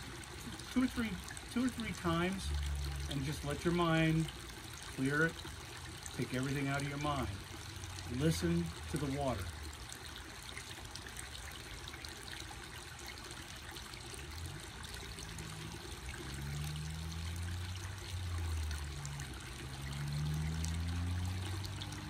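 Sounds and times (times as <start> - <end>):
water trickling over rocks: 0.0 - 22.0.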